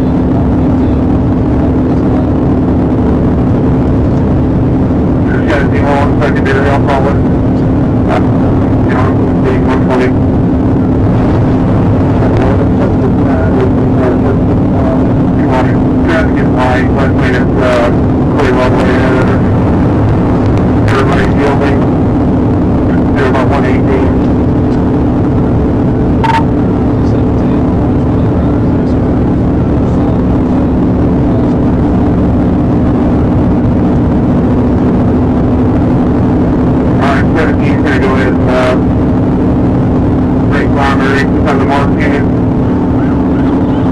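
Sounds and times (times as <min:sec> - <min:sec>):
car engine running hard: 0:00.0 - 0:43.9
road and wind noise: 0:00.0 - 0:43.9.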